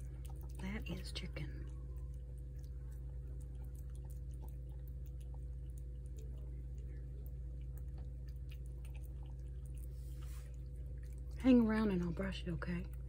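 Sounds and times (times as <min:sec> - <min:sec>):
cat chewing and lapping: 0:00.0 - 0:13.0
steady low hum: 0:00.0 - 0:13.0.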